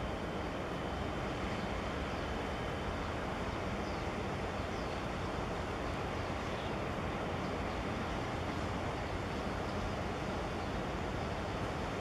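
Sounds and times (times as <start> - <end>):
ship engine low rumble: 0.0 - 12.0.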